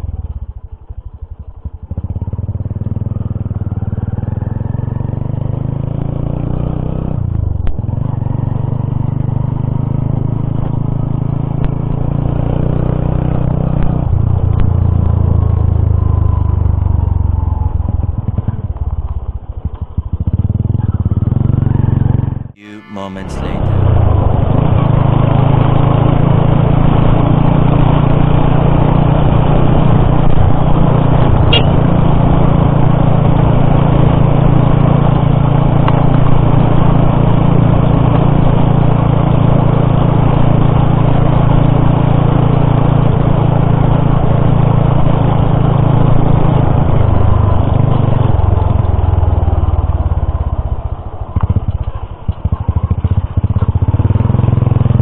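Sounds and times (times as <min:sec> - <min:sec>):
motorcycle engine running: 0:00.0 - 0:22.6, 0:23.8 - 0:55.0.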